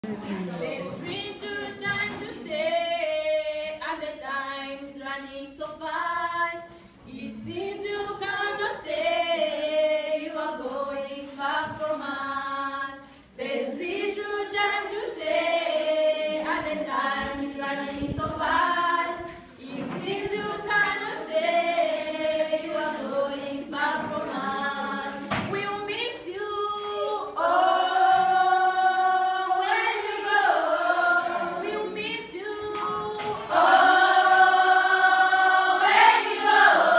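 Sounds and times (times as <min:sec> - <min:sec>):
girls singing a cappella: 0:00.6 - 0:36.9.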